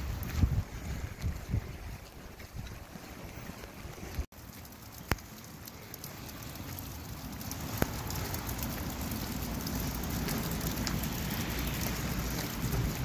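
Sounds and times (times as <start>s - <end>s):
rain on pavement: 0.0s - 13.0s.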